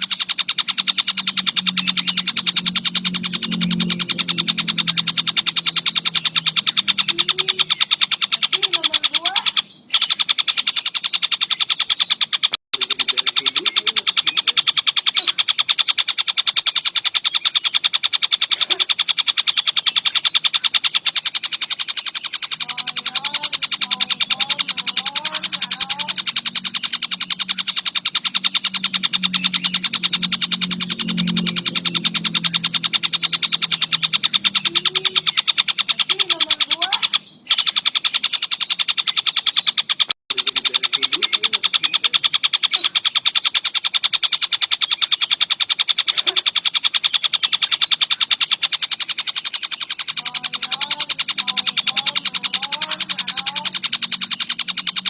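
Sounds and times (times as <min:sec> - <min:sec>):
low hum: 0:00.0 - 0:39.2, 0:40.3 - 0:55.0
kingfisher fast chattering call: 0:00.0 - 0:55.0.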